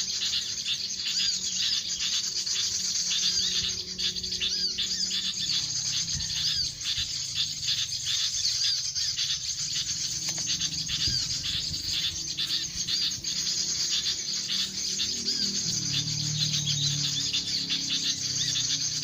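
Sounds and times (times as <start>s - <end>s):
bird chirping: 0.0s - 19.0s
insect chorus: 0.0s - 19.0s.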